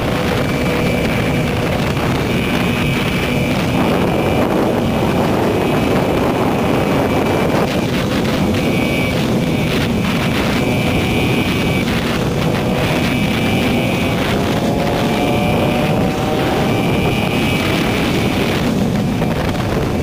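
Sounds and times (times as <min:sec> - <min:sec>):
motorcycle running at speed: 0:00.0 - 0:20.0
thin high whine: 0:00.0 - 0:20.0
wind rushing over microphone: 0:00.0 - 0:20.0.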